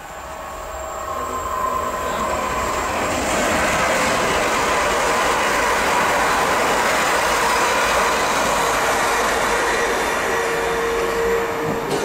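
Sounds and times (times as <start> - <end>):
train wheel and rail noise: 0.0 - 12.0.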